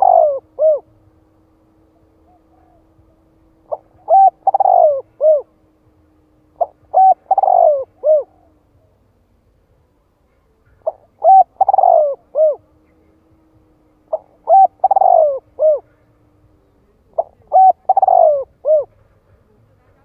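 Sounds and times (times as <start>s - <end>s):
dove cooing: 0.0s - 5.8s, 6.4s - 9.1s, 10.7s - 19.3s.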